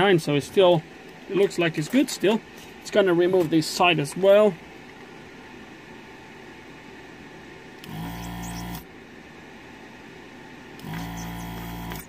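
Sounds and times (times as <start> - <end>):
desoldering vacuum pump humming: 0.0 - 12.0.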